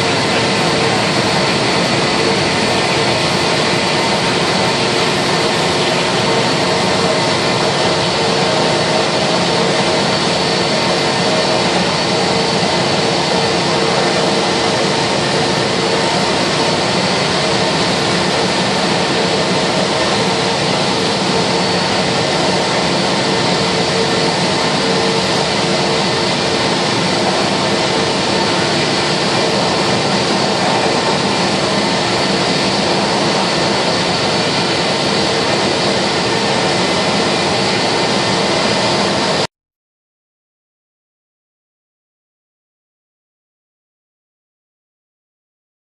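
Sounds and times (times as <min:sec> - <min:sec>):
jet engine rush and whine: 0:00.0 - 0:39.5.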